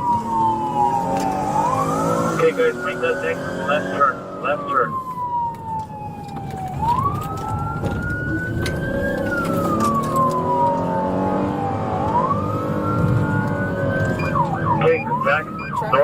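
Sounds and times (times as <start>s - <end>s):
car engine and road noise: 0.0s - 16.0s
police siren wailing: 0.0s - 16.0s.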